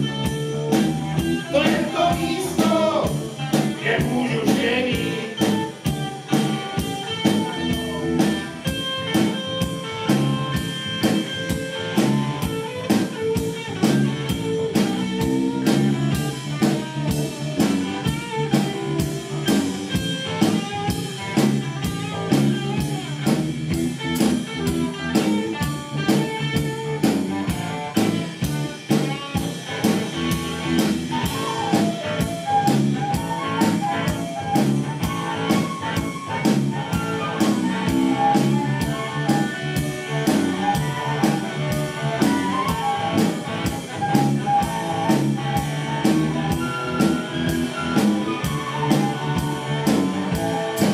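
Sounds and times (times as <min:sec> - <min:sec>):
flute: 0:00.0 - 0:23.4, 0:27.4 - 0:50.9
drum kit beat: 0:00.0 - 0:50.9
guitar: 0:00.0 - 0:50.9.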